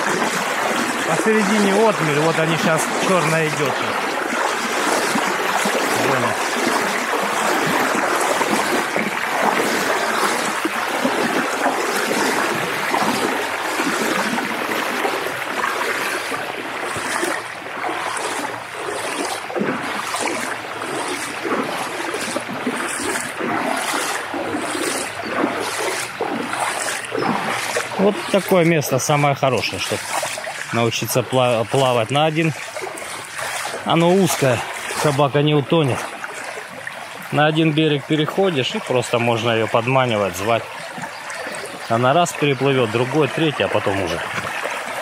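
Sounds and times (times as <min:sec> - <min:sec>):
river water rushing: 0:00.0 - 0:45.0
splashing wading strides: 0:00.0 - 0:45.0.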